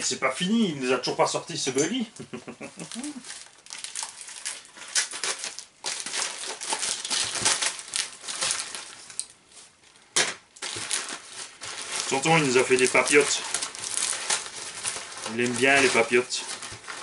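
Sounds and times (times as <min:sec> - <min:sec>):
paper wrapping crinkling and tearing: 0:02.4 - 0:17.0.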